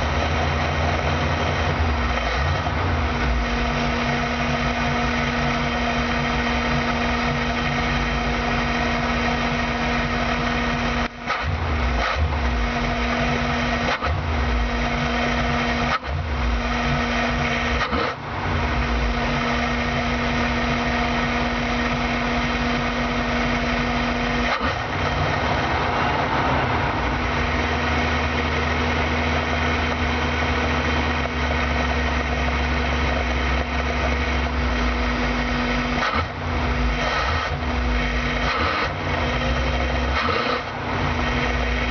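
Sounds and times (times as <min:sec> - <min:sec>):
van engine running: 0:00.0 - 0:41.9.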